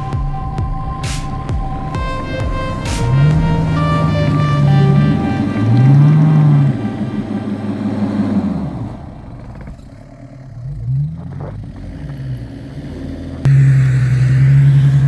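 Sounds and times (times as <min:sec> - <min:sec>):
engine revving hard: 0:00.0 - 0:15.0.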